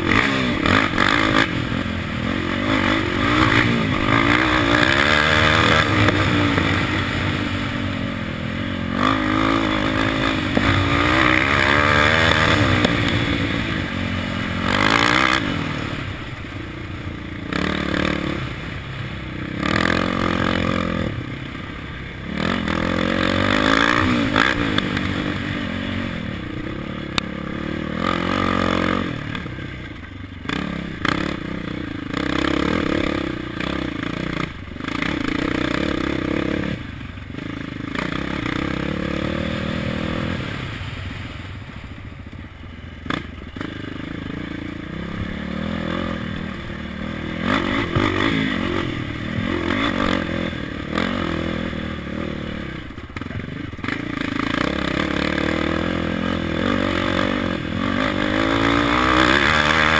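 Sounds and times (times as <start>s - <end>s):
quad engine revving: 0.0s - 16.5s, 17.4s - 41.3s, 43.0s - 59.9s.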